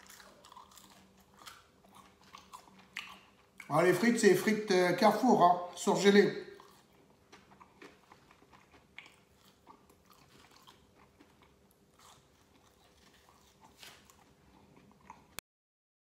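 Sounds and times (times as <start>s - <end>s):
chewing fries with soft crunches: 0.0s - 4.2s, 5.8s - 15.4s.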